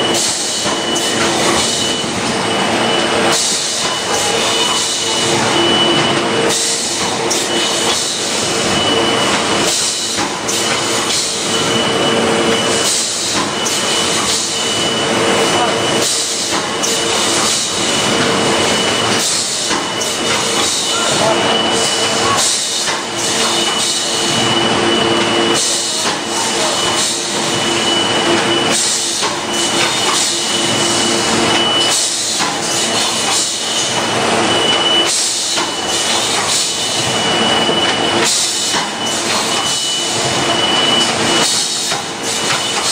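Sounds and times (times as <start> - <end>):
high machine whine: 0.0 - 42.9.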